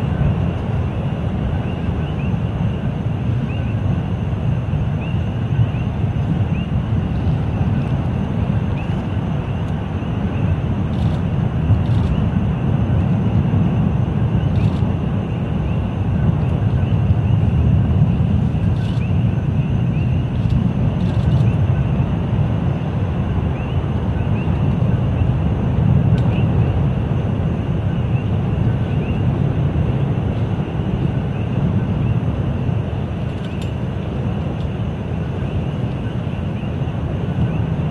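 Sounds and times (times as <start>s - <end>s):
lava fountain roaring: 0.0s - 37.9s.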